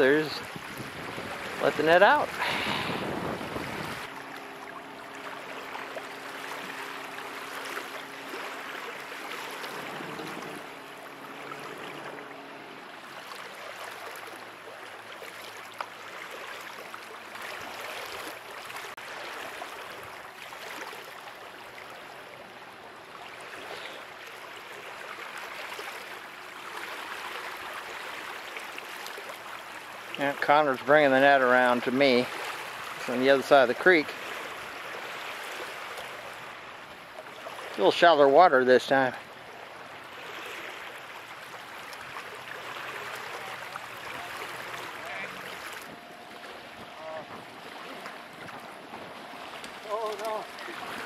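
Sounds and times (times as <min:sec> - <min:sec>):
creek water rushing: 0:00.0 - 0:51.0
outboard motor hum: 0:00.0 - 0:51.0.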